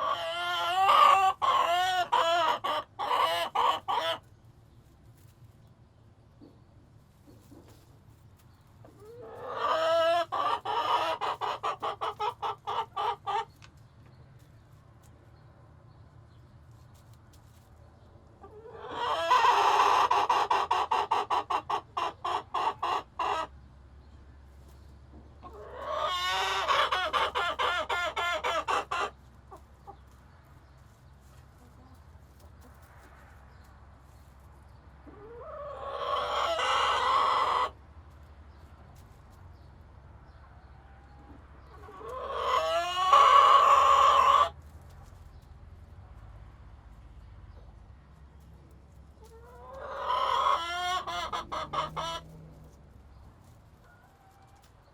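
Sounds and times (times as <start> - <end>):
chickens calling loudly: 0.0 - 5.5, 6.3 - 15.2, 16.7 - 54.9.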